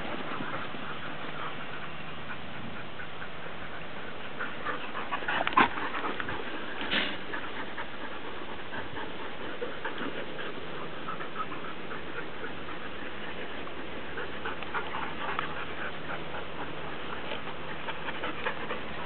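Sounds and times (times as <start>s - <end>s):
dogs yelping: 0.0s - 19.0s
huskies panting: 0.0s - 19.0s.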